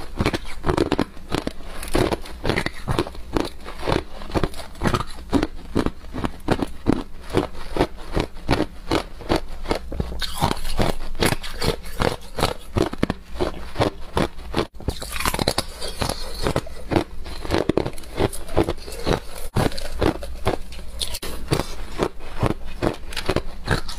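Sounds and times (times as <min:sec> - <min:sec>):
person crunching ice: 0:00.0 - 0:23.9.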